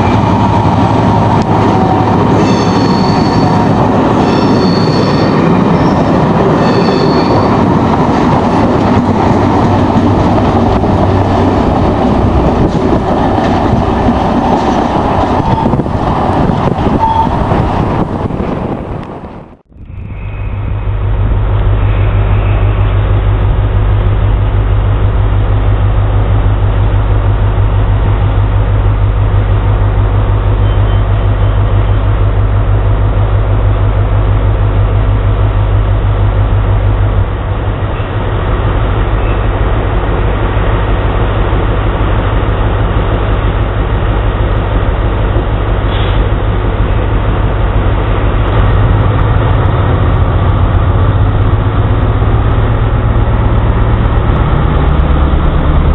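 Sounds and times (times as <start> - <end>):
diesel engine deep drone: 0.0 - 55.9.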